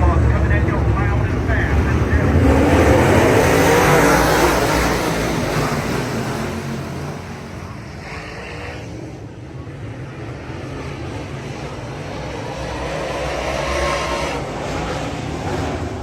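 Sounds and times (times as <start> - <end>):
race cars passing: 0.0 - 16.0.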